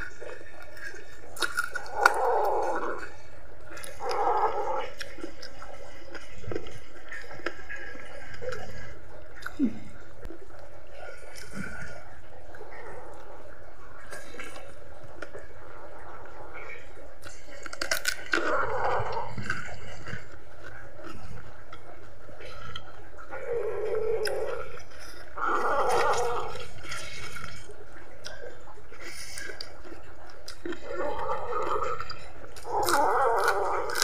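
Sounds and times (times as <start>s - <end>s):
close-up chewing sounds: 0.0s - 34.0s
low steady hum: 0.0s - 34.0s.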